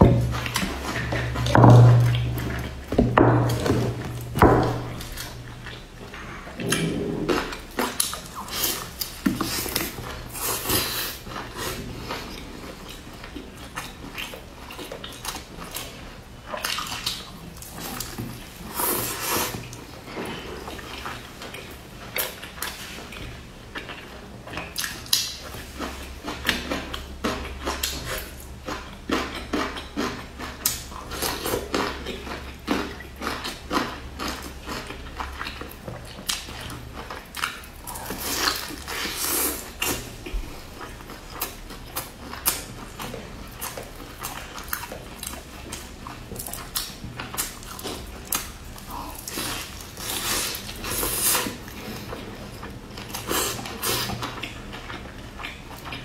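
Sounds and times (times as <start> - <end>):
biting and chewing food: 0.0 - 56.0.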